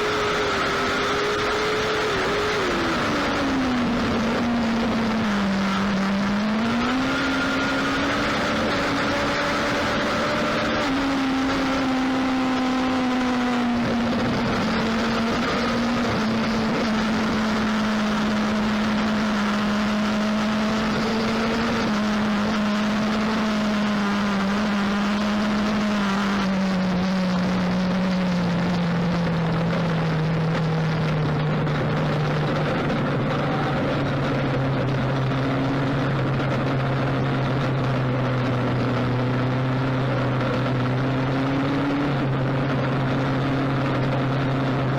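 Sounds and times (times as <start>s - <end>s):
race car engines droning: 0.0s - 44.9s.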